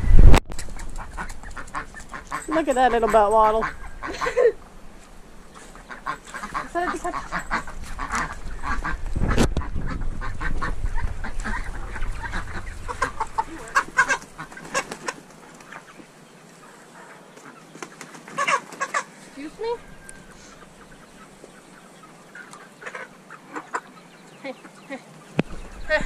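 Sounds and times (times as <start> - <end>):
chickens clucking: 0.5 - 26.0
ducks quacking: 0.6 - 4.7, 5.4 - 26.0.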